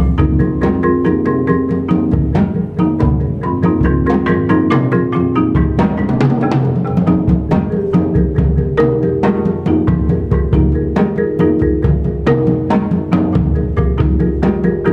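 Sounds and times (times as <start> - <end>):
drums and cymbals: 0.0 - 14.9
low bass notes: 0.0 - 14.9
marimbas and vibraphone: 0.0 - 14.9.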